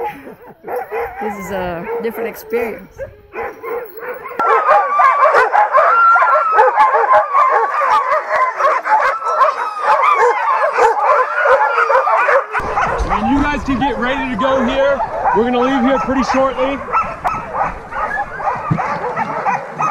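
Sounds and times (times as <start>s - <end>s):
sled dogs barking and yelping: 0.0s - 19.9s.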